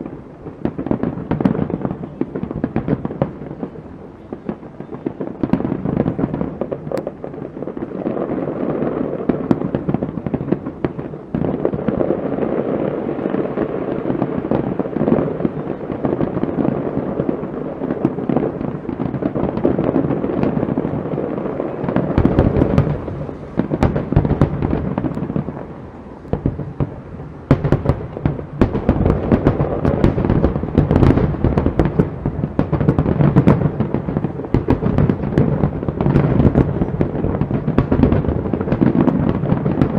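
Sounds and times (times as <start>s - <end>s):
fireworks booming: 0.0s - 39.9s
fireworks crackling: 0.0s - 39.9s.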